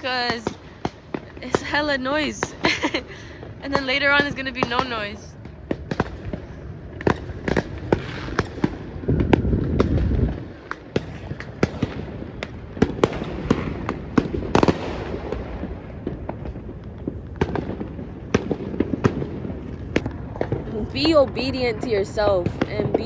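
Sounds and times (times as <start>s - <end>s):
distant fireworks rumble: 0.0s - 23.0s
fireworks cracks and bangs: 0.1s - 23.0s.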